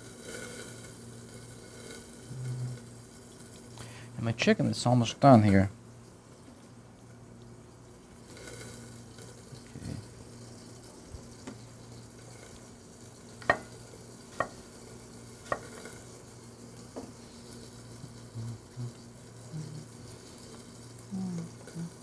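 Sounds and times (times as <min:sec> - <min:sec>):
chicken sizzling in a pan: 0:00.0 - 0:22.0
low steady hum: 0:00.0 - 0:22.0.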